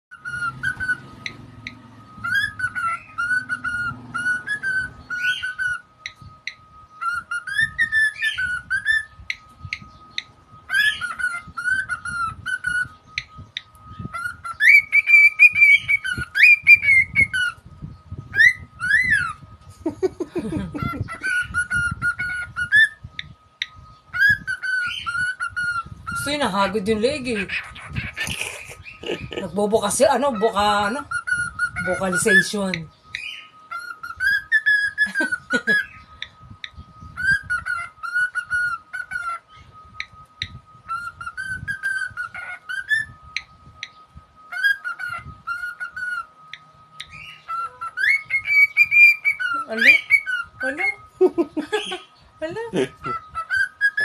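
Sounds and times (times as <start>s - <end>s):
cockatiel whistling: 0.1s - 17.6s, 18.3s - 19.4s, 20.4s - 29.5s, 30.1s - 54.0s
faint steady high tone: 0.1s - 28.0s, 28.7s - 54.0s.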